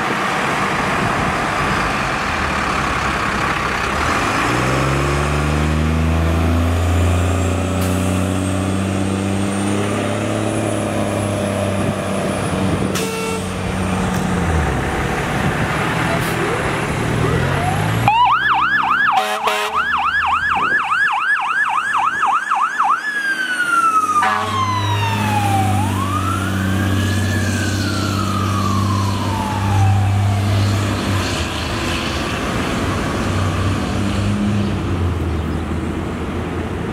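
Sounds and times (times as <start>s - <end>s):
fire truck siren: 0.0s - 15.2s, 16.0s - 33.3s
heavy truck engine rumbling: 0.0s - 22.2s, 23.0s - 36.9s.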